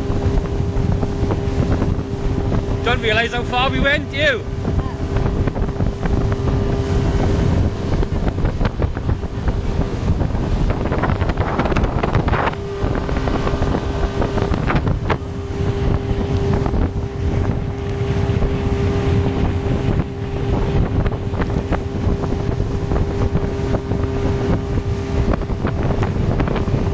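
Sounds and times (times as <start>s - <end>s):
outboard motor droning: 0.0s - 26.9s
water slapping against hull: 0.0s - 26.9s
wind buffeting on microphone: 0.0s - 26.9s.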